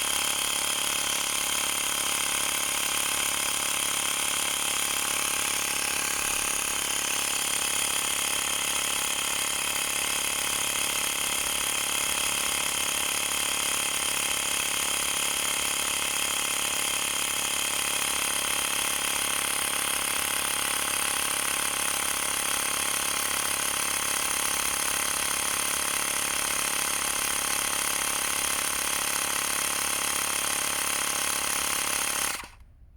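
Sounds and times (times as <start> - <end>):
electric air compressor buzzing: 0.0 - 32.6.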